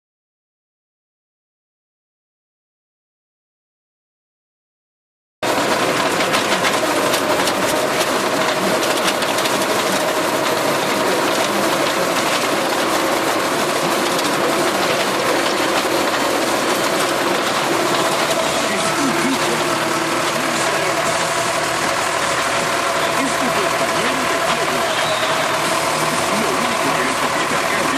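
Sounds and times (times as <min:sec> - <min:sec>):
tractor engine under load: 0:05.4 - 0:27.9.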